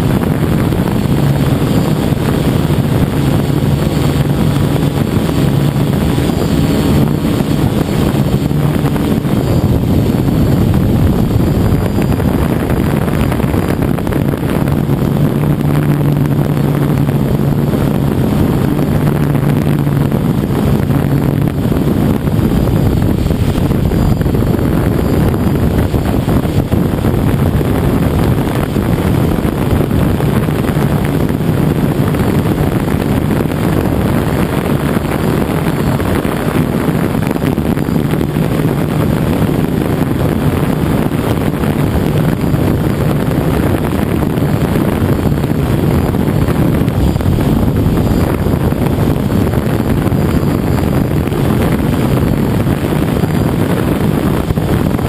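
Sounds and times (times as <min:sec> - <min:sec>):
drone motors and propellers: 0:00.0 - 0:55.0
wind on microphone: 0:00.0 - 0:55.0.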